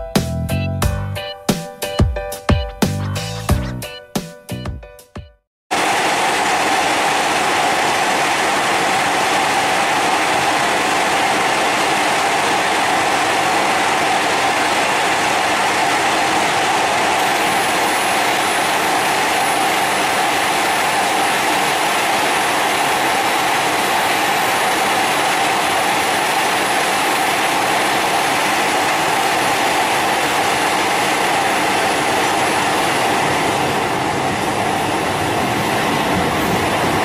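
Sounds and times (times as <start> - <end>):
electric train rushing past: 5.7 - 37.0.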